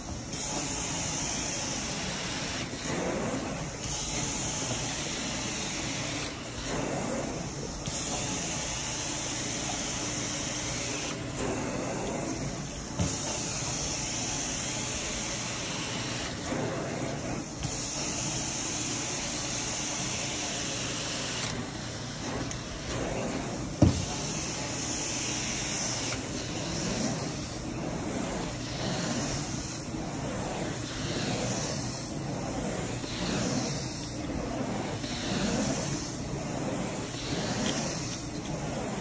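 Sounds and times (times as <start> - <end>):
extraction wand suction: 0.3 - 39.0.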